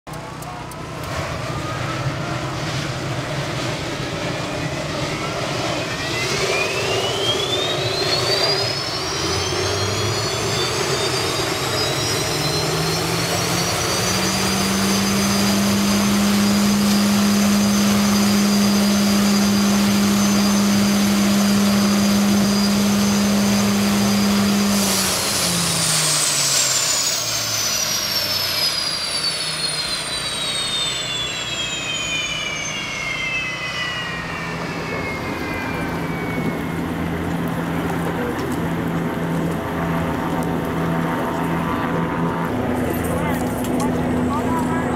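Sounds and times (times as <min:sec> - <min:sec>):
turbine engine whine: 0:00.0 - 0:44.9
low engine hum: 0:00.1 - 0:44.9.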